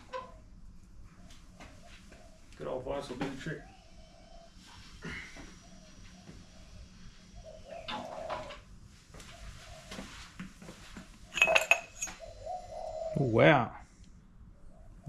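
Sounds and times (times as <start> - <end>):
doves cooing: 0.0 - 10.4, 11.3 - 13.8, 14.4 - 15.0.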